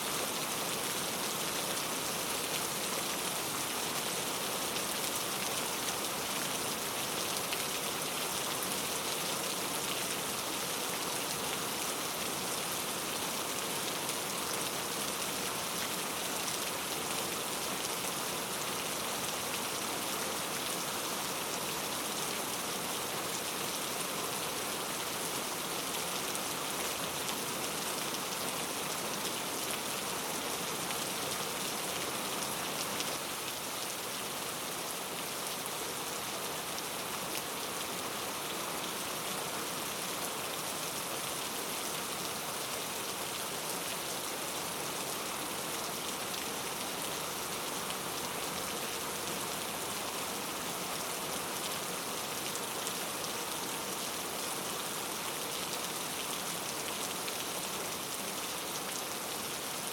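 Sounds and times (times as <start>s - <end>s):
rain on foliage: 0.0s - 59.9s.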